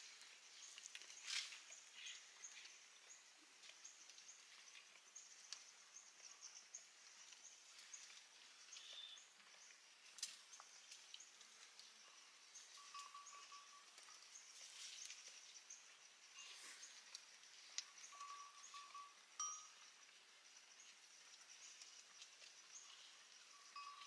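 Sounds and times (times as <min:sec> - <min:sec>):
small clicks and ticks: 0:00.5 - 0:15.4, 0:16.9 - 0:24.0.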